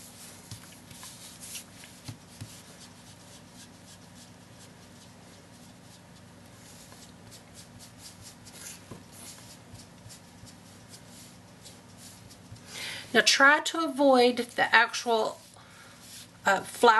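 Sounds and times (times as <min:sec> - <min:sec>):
sponge dabbing on card: 0:00.0 - 0:12.7, 0:14.7 - 0:16.5.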